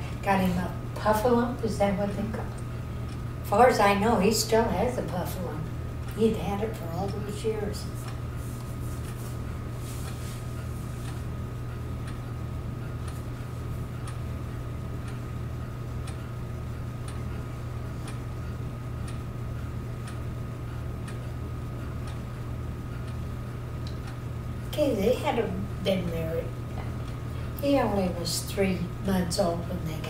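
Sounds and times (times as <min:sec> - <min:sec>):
soft ticking: 0:00.3 - 0:09.2, 0:10.1 - 0:29.8.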